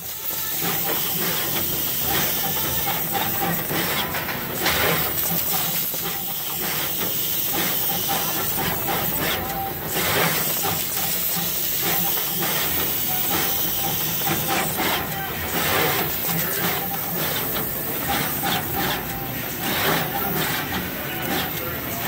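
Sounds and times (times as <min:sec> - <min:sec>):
machine hiss: 0:00.0 - 0:22.0
rapid irregular clicking: 0:00.4 - 0:22.0.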